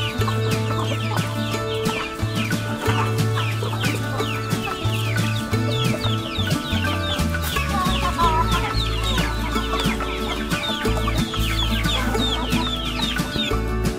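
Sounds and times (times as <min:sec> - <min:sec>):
background music with low bass: 0:00.0 - 0:13.9
chickens clucking: 0:00.0 - 0:13.9.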